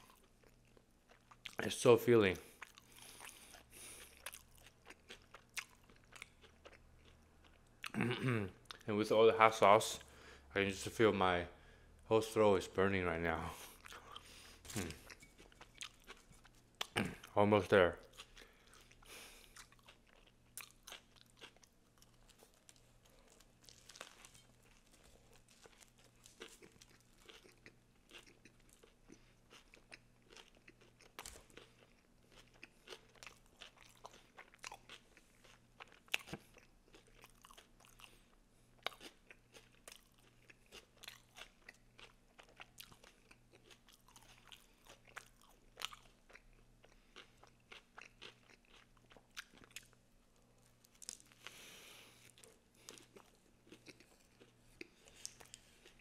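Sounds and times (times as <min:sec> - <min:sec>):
chewing sandwich with crunches: 0:02.4 - 0:08.9, 0:13.5 - 0:17.4, 0:18.0 - 0:56.0.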